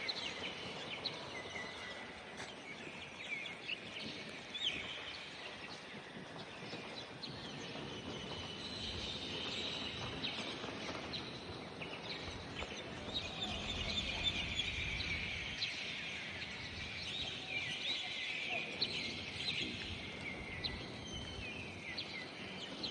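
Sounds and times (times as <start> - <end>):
chorus of small birds chirping: 0.0 - 22.9.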